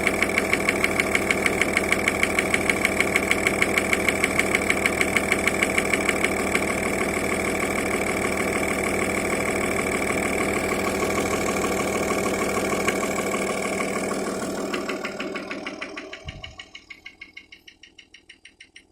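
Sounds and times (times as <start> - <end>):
diesel engine idling with knock: 0.0 - 18.9.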